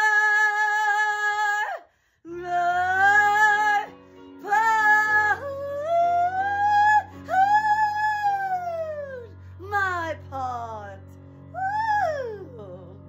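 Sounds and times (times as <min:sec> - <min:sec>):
low accompaniment chords: 0:02.3 - 0:13.0.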